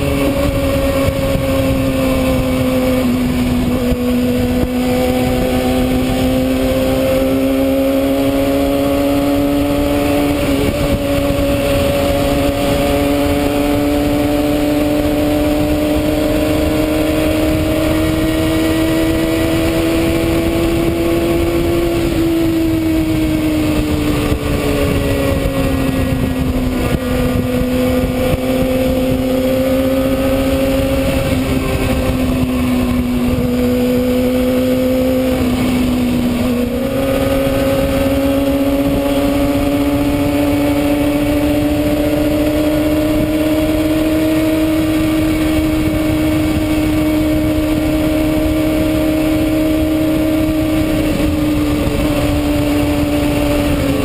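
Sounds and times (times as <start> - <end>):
constant rushing noise: 0.0 - 54.0
motorcycle engine running: 0.0 - 54.0.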